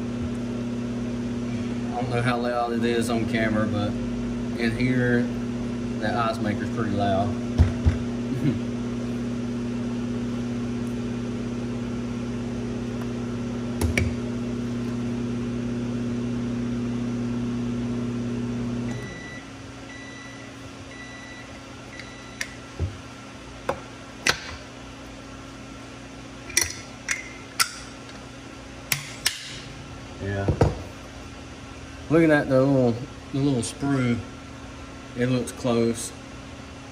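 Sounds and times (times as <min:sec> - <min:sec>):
electric appliance hum: 0:00.0 - 0:36.9.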